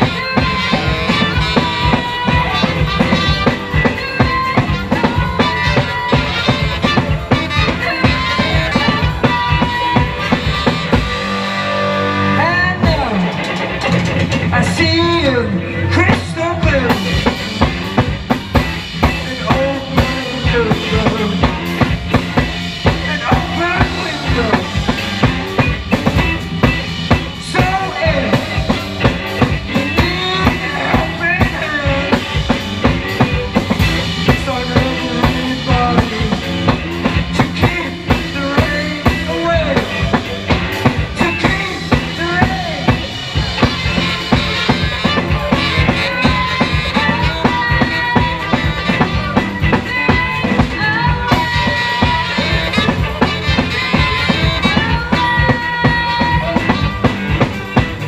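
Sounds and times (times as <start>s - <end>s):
drum kit kick and snare: 0.0s - 11.7s, 16.0s - 58.0s
live rock band playing: 0.0s - 58.0s.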